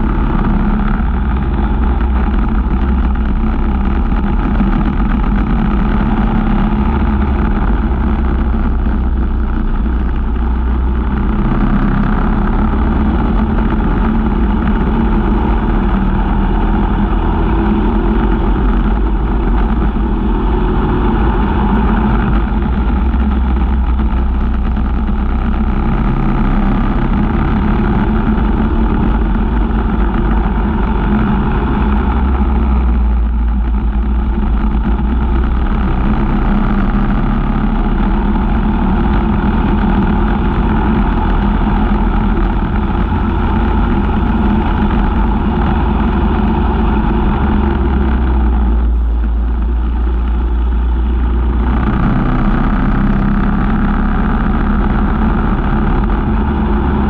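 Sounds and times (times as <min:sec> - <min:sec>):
kart engine droning: 0:00.0 - 0:57.0.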